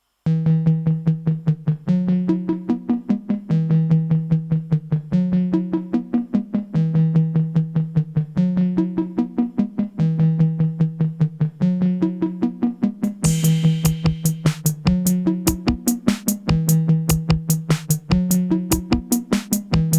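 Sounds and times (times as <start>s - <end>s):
higher sequenced synth notes: 0.3s - 19.9s
pulsing synthesizer bass sequence: 0.3s - 19.9s.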